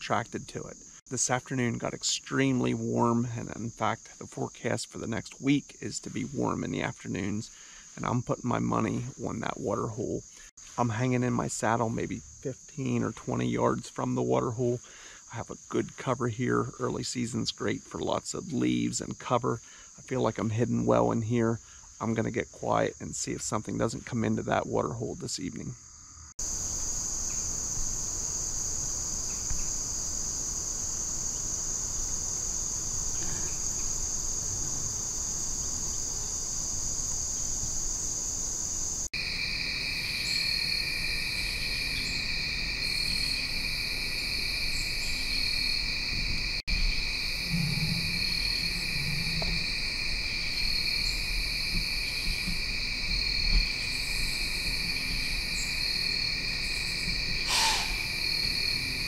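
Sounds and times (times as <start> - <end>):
crickets and insects trilling: 0.0 - 59.0.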